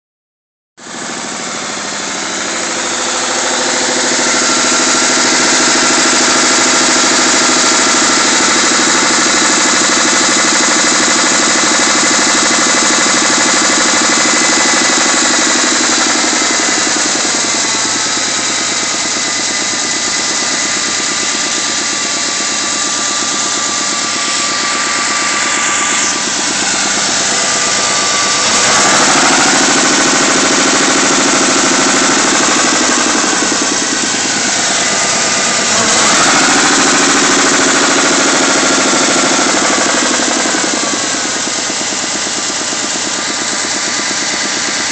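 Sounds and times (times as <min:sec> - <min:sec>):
car engine idling: 0:00.8 - 0:44.9
rhythmic engine knock: 0:00.8 - 0:44.9.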